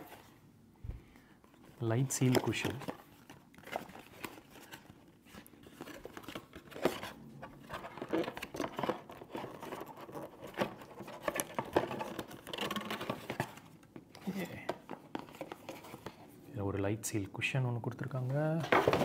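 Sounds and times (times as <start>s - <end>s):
cardboard rustling and scraping: 1.7s - 16.3s, 18.3s - 19.0s.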